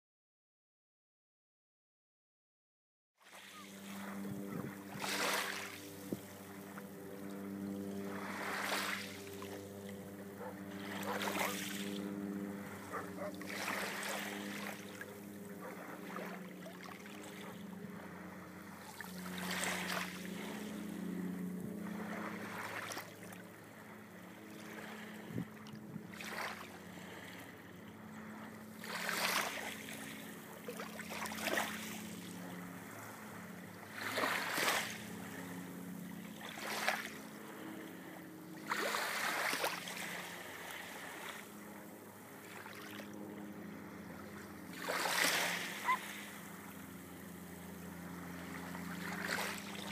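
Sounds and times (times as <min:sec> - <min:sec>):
low hum: 0:03.5 - 0:49.9.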